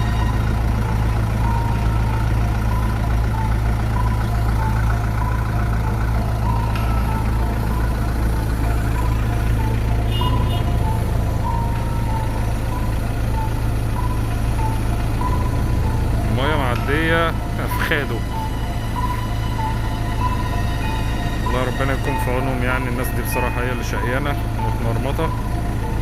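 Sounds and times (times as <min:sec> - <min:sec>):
heavy vehicle engine idling: 0:00.0 - 0:26.0.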